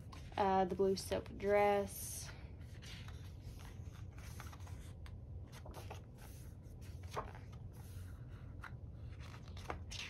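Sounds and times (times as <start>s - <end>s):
book pages turning: 0.0s - 10.0s.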